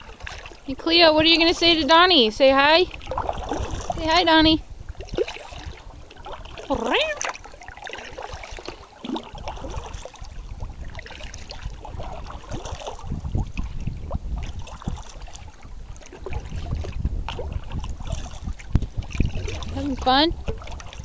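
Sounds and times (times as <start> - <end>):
paddle splashing in water: 0.0 - 0.7, 2.9 - 4.2, 4.9 - 21.0
wind on microphone: 0.0 - 21.0.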